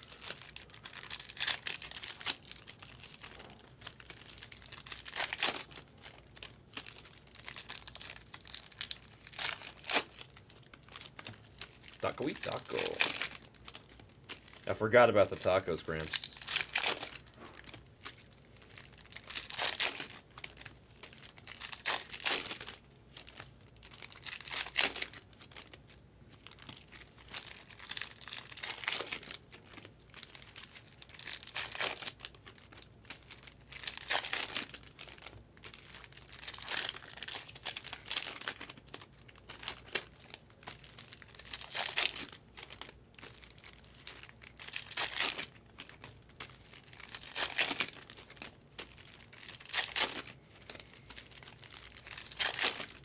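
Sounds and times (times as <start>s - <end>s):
foil wrappers tearing and crinkling: 0.0s - 53.0s.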